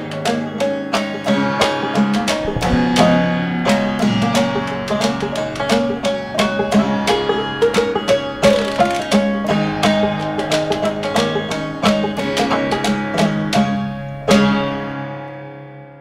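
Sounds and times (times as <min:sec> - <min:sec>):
plucked string music: 0:00.0 - 0:15.4.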